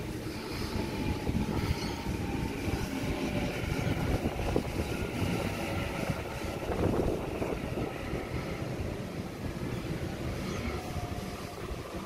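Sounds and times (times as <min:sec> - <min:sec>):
faint train whine: 0:00.0 - 0:12.0
train wheels rumbling on rails: 0:00.0 - 0:12.0.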